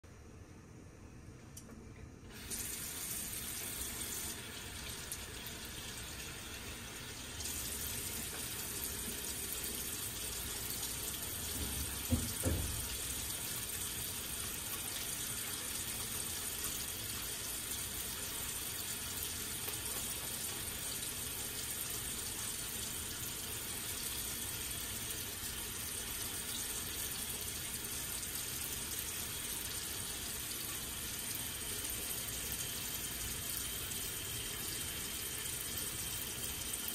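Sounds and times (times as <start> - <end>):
tap water running into basin: 2.3 - 36.9.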